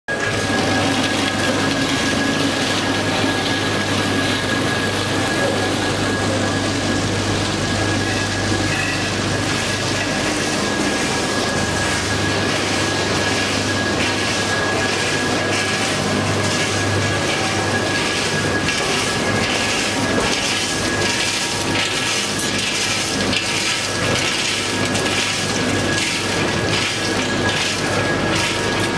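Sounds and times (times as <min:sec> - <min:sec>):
packing machine humming and rattling: 0:00.1 - 0:28.9
thin steady machine whine: 0:00.1 - 0:28.9.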